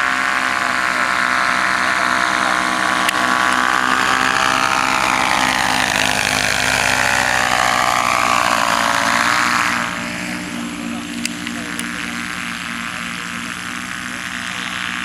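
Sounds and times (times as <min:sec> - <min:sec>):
paramotor engine and propeller: 0:00.0 - 0:15.0.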